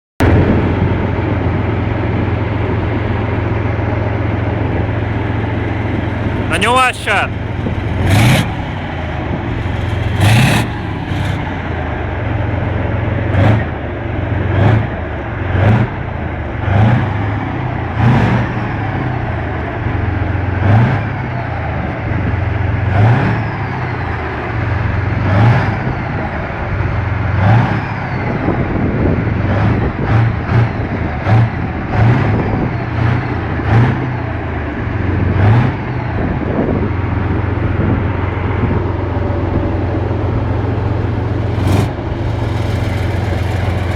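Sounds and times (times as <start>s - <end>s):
tank diesel engine revving: 0.2s - 43.9s.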